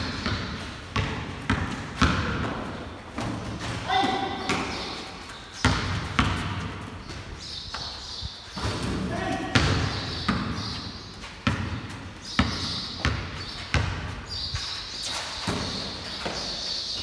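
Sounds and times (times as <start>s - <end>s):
basketball bouncing on concrete: 0.0s - 14.4s, 15.4s - 16.5s.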